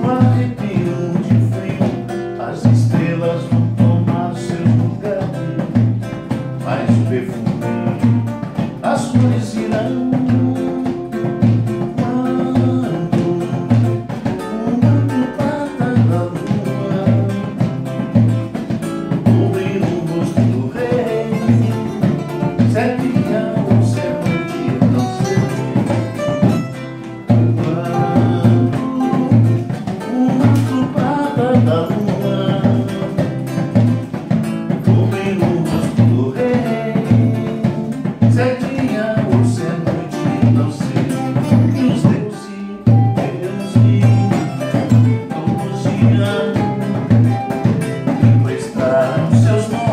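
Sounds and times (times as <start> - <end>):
man singing: 0.0 - 49.9
strummed acoustic guitar: 0.0 - 49.9
wooden hand drum beat: 0.0 - 49.9.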